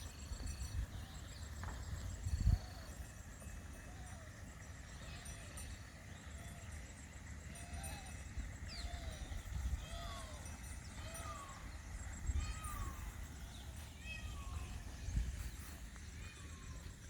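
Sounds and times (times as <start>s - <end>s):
faint high chirps: 0.0s - 17.0s.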